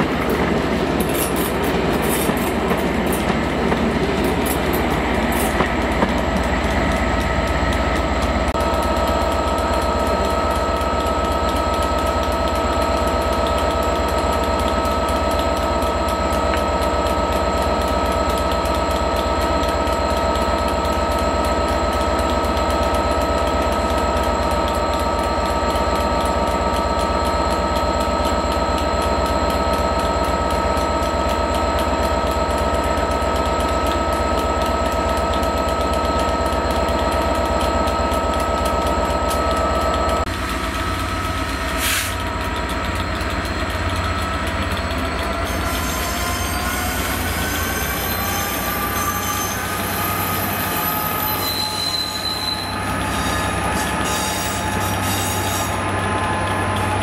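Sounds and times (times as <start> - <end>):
train drone with whining tones: 0.0 - 57.0.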